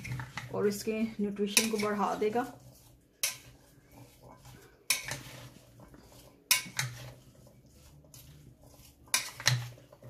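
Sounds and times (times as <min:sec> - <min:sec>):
spoon scraping food mix: 0:00.0 - 0:10.0.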